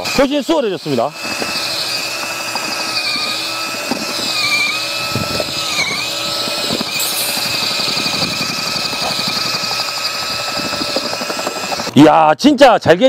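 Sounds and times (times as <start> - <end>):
mixer drill motor whine: 0.0 - 12.1
mortar churning: 0.6 - 12.0.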